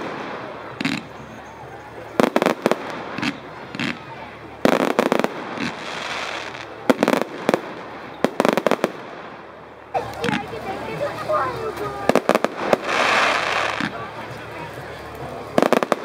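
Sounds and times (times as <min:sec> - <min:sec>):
fireworks bangs: 0:00.0 - 0:10.5, 0:11.8 - 0:14.3, 0:15.5 - 0:16.0.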